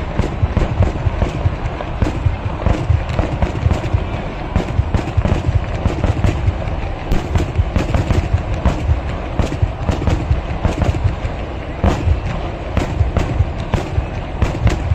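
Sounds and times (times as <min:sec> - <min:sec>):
fireworks bangs: 0:00.0 - 0:14.9
heavy low booms: 0:00.0 - 0:14.9.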